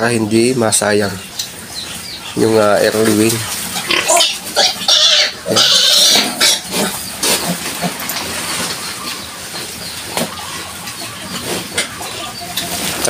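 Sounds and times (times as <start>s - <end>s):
pig noises: 0.0s - 13.0s
piglets squealing: 1.1s - 13.0s.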